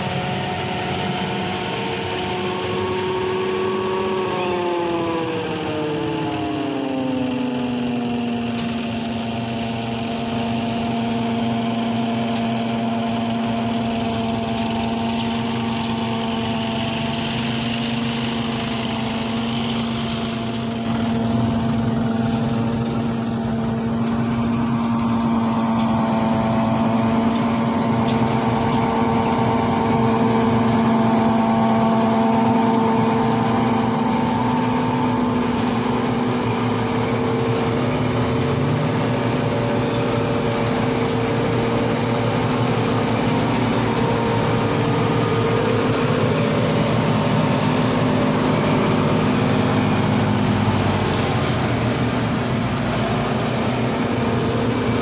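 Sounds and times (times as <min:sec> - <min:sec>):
harvester and tractor mechanical drone: 0:00.0 - 0:55.0.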